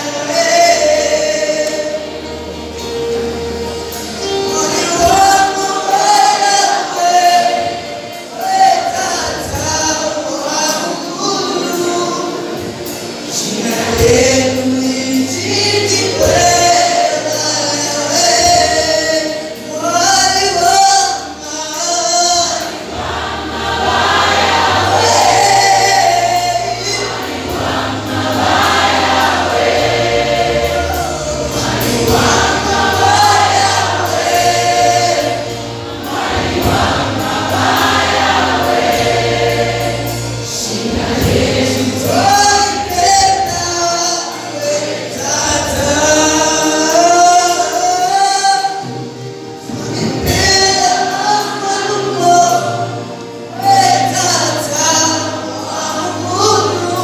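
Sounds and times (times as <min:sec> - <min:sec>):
male lead vocalist singing: 0:00.0 - 0:02.4, 0:04.1 - 0:23.1, 0:23.9 - 0:35.6, 0:40.4 - 0:57.0
gospel choir singing: 0:00.0 - 0:57.0.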